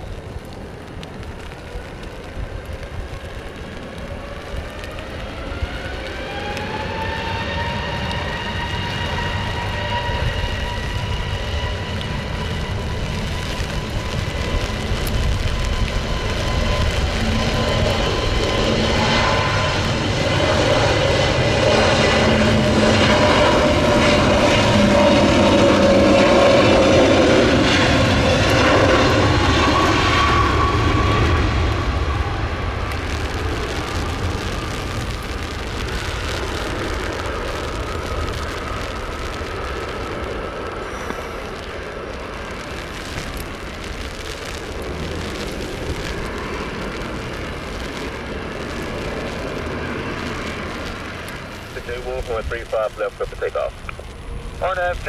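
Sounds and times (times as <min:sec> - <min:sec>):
airliner engines whining: 0:00.0 - 0:55.0.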